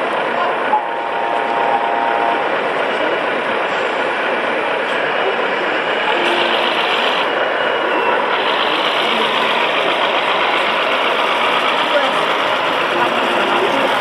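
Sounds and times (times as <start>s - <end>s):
model truck engines running: 0.0s - 14.0s.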